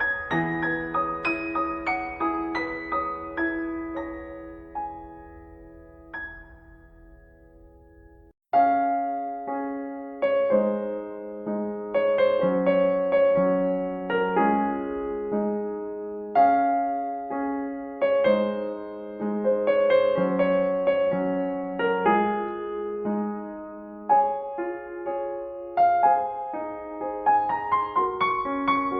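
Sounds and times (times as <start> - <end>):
slow solo piano music: 0.0 - 28.9.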